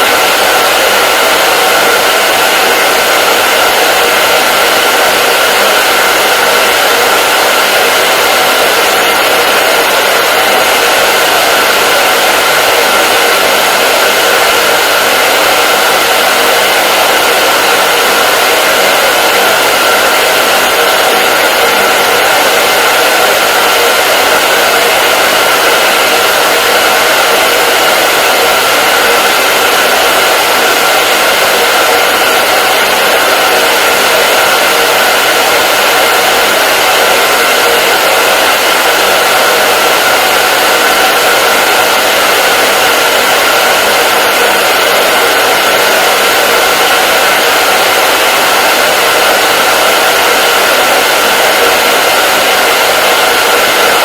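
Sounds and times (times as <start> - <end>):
hair dryer fan air rushing: 0.0 - 54.0
hair dryer motor whine: 0.0 - 54.0.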